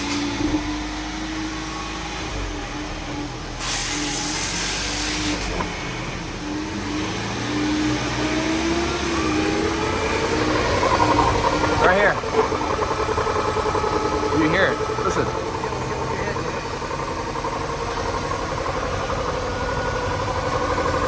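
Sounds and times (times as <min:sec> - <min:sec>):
rear differential whining: 0:00.0 - 0:21.0
road and drivetrain rumble: 0:00.0 - 0:21.0.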